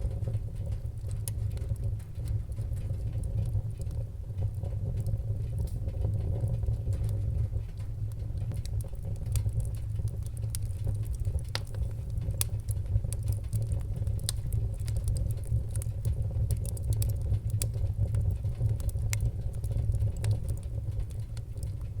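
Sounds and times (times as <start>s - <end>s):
fire crackling and popping: 0.0s - 22.0s
fire roaring: 0.0s - 22.0s.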